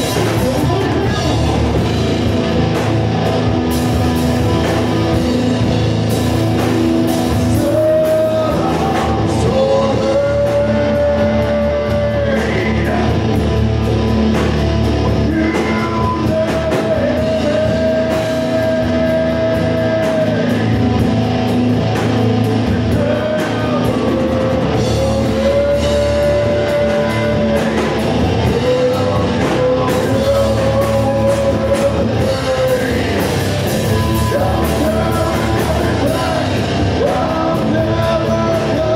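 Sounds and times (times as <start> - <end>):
live rock band playing: 0.0 - 38.9
singer's vocals: 0.0 - 38.9.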